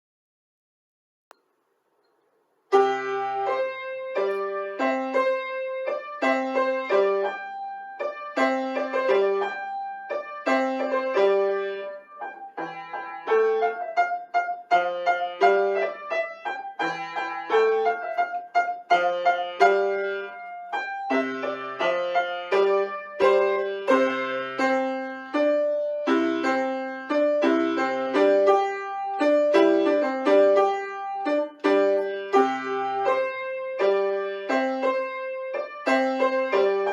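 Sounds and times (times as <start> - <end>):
piano playing a hornpipe: 2.7 - 36.9.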